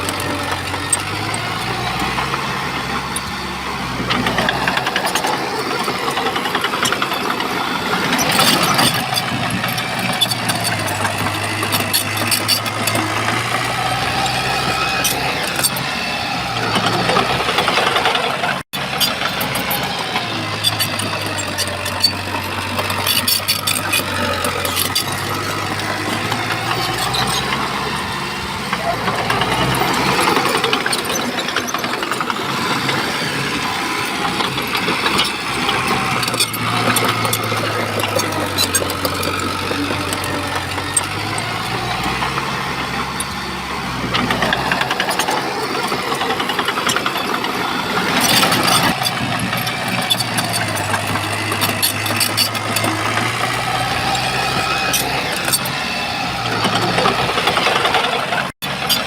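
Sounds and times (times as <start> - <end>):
bulldozer diesel engine running: 0.0 - 59.0
sharp clicks and knocks: 0.0 - 59.0.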